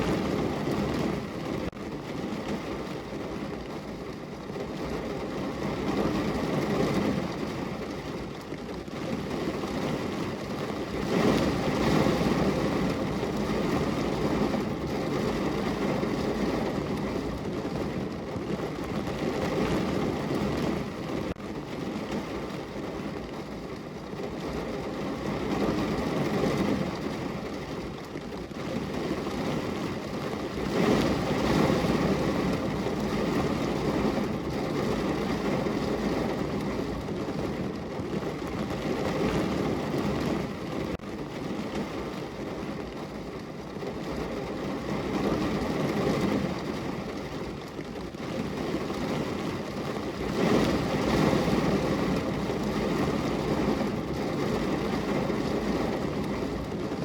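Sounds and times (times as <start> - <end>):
heavy rain on a car roof: 0.0 - 57.0.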